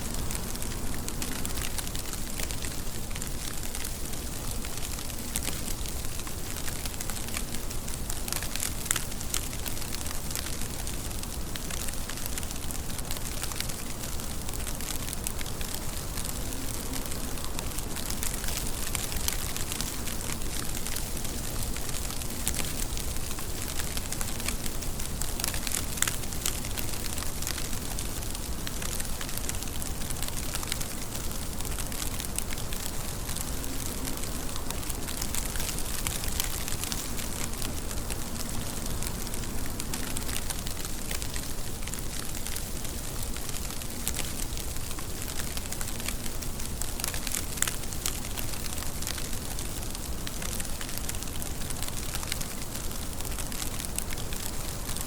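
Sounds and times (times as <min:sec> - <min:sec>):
raindrops ticking: 0:00.0 - 0:55.0
steady rain hiss: 0:00.0 - 0:55.0.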